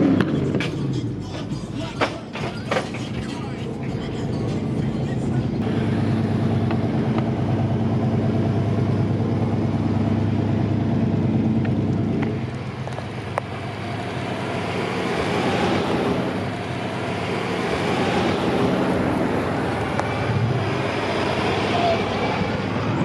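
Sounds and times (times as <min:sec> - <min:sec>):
vehicle engine running: 0:00.0 - 0:23.0
vehicles passing: 0:00.0 - 0:23.0.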